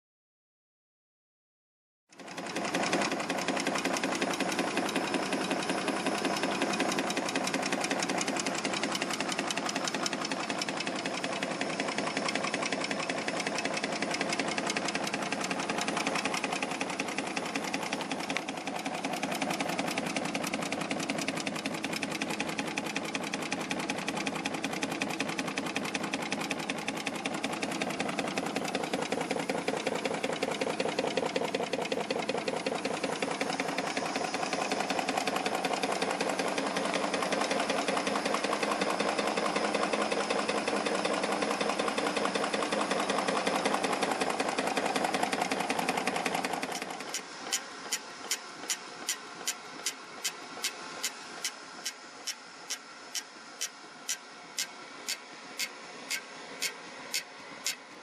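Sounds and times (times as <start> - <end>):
engine mechanical clatter: 2.1 - 58.0.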